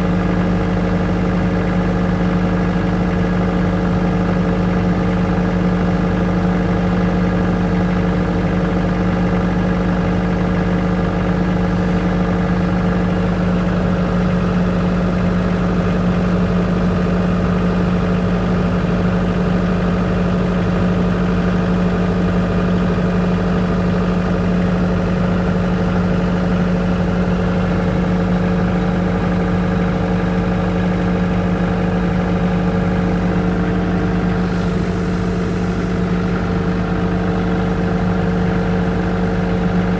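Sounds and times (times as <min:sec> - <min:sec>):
generator humming steadily: 0:00.0 - 0:39.9.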